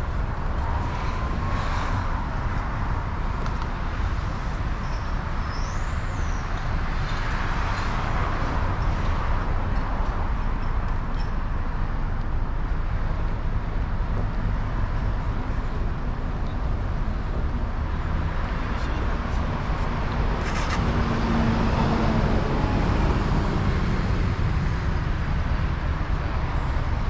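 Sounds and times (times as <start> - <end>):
city street traffic rumble: 0.0 - 27.0.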